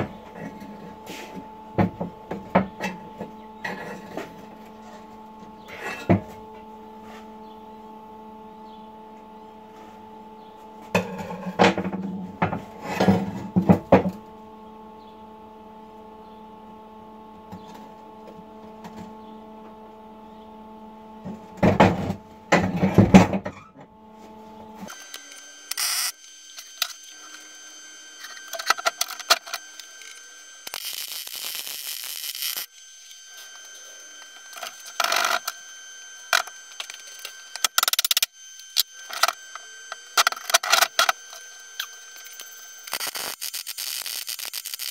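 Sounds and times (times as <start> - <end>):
electrical hum: 0.0 - 44.9.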